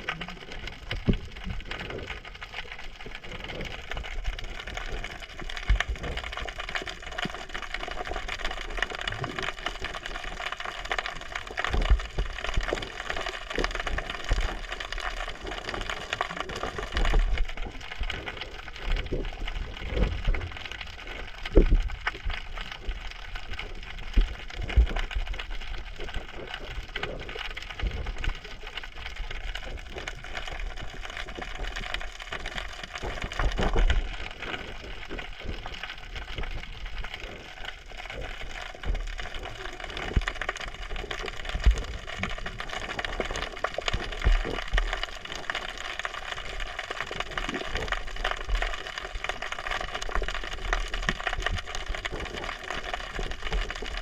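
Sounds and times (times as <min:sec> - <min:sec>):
underwater crackling and ticking: 0:00.0 - 0:54.0.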